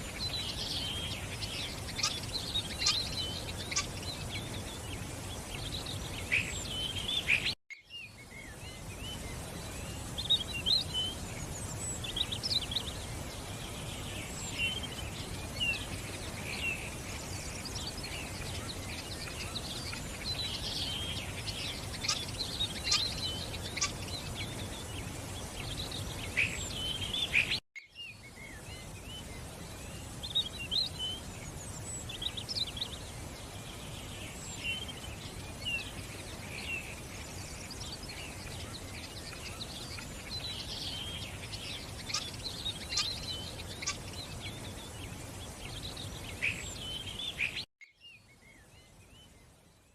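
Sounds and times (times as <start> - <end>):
birds chirping and singing: 0.0 - 49.5
outdoor background hiss: 0.0 - 49.9.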